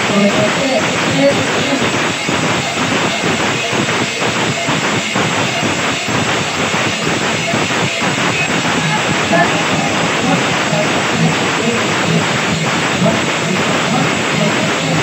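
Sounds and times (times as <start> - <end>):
fast percussion beat: 0.0 - 15.0.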